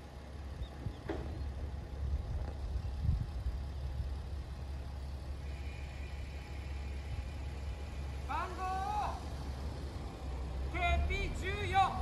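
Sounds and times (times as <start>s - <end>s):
diesel railcar engine rumbling: 0.0s - 12.0s.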